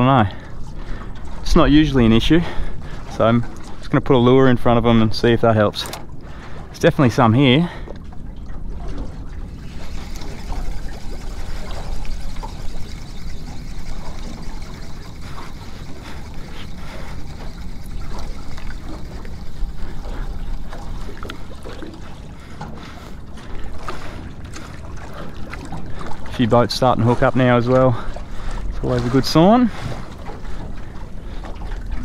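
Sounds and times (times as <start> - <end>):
water lapping against metal hull: 0.0 - 32.0.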